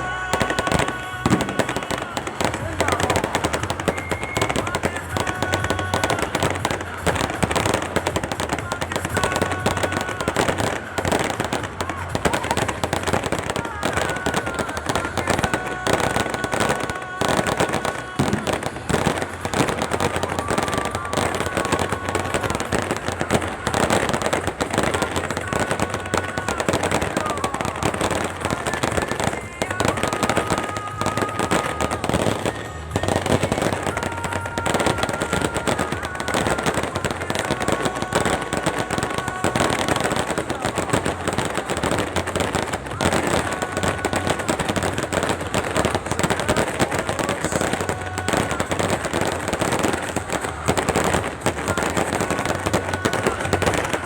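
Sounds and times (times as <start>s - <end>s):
fireworks bangs and crackling: 0.0s - 54.0s
fireworks whistling: 0.0s - 54.0s.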